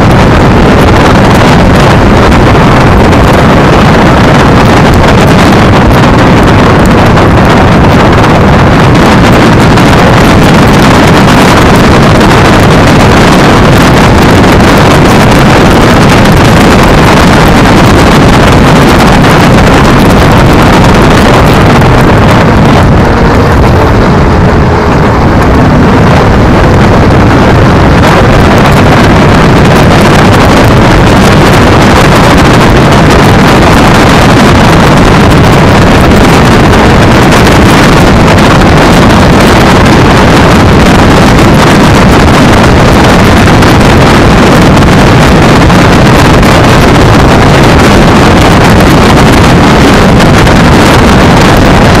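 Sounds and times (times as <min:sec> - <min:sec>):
tyre and road rumble: 0:00.0 - 0:52.0
wind rushing over microphone: 0:00.0 - 0:52.0.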